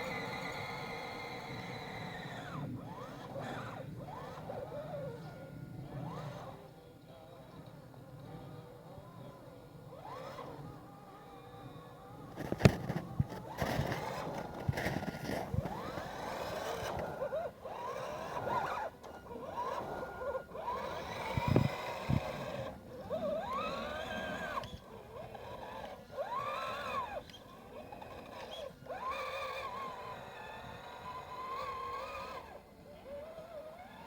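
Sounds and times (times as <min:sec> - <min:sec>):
electric motor whining: 0:00.0 - 0:34.0.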